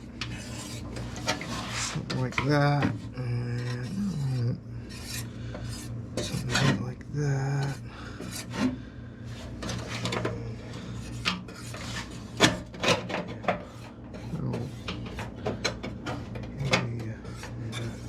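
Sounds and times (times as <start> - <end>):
steady low hum: 0.0 - 18.0
metal scraping and rubbing: 0.2 - 7.0, 9.3 - 15.4, 16.0 - 18.0.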